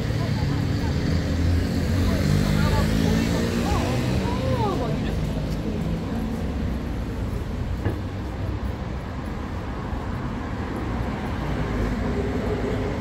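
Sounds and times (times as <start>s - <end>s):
low rumble of passing vehicles: 0.0s - 13.0s.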